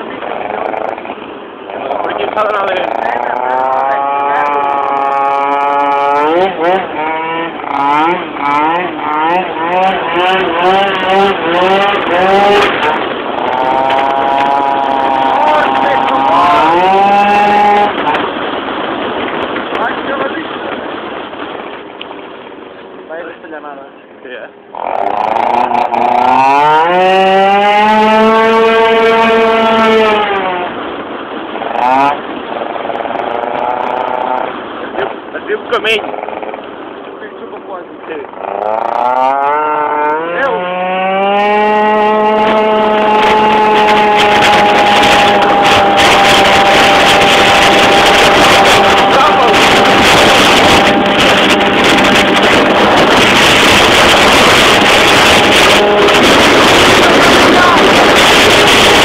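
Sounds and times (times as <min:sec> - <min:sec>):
scooter engine revving: 0:00.0 - 0:20.2, 0:24.7 - 0:37.0, 0:38.0 - 0:59.0
wind rush on microphone: 0:00.0 - 0:59.0.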